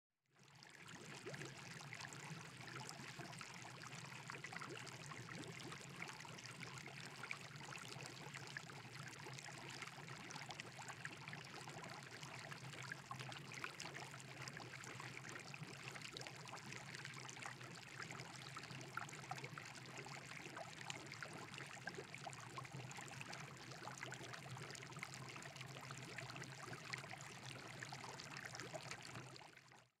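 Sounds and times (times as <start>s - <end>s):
trickling water: 0.4s - 29.9s.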